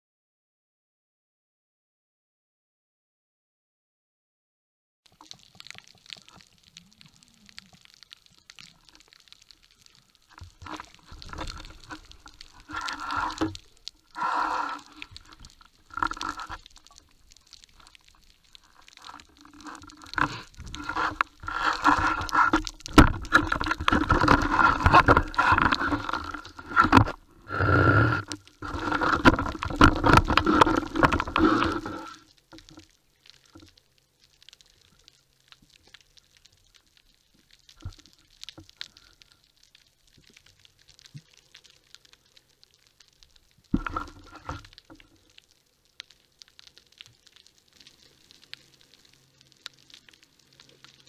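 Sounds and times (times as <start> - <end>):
underwater handling noise: 5.1 - 51.0.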